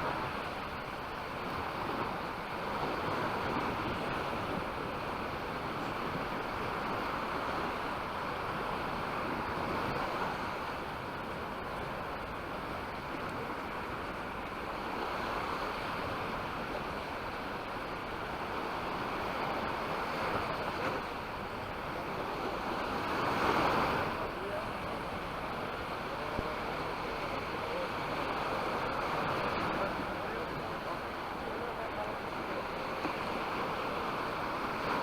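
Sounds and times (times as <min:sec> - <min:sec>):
surf washing onto beach: 0:00.0 - 0:35.0.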